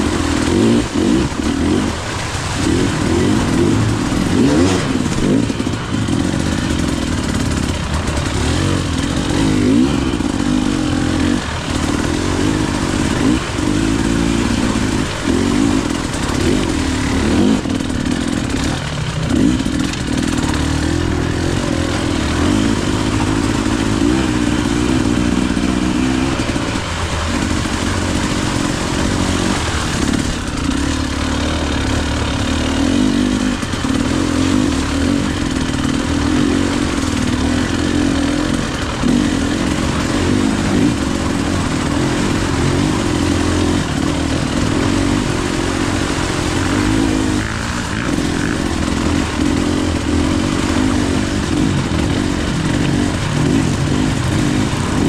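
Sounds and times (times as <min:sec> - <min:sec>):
two-stroke dirt bike engine revving: 0:00.0 - 0:55.0.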